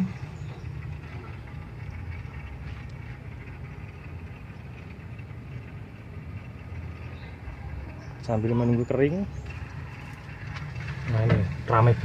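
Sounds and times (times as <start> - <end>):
refrigerator low hum: 0.0 - 12.0
rough gas rushing noise: 0.0 - 12.0.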